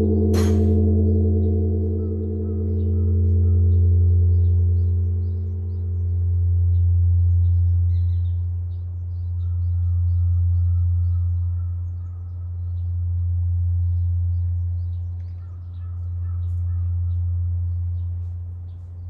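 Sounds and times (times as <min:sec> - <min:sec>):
temple bell humming: 0:00.0 - 0:18.7
small birds chirping: 0:00.0 - 0:19.0.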